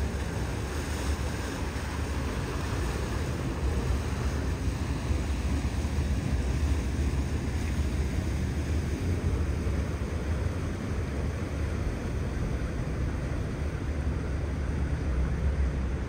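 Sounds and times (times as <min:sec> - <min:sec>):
harbour water wash: 0:00.0 - 0:16.0.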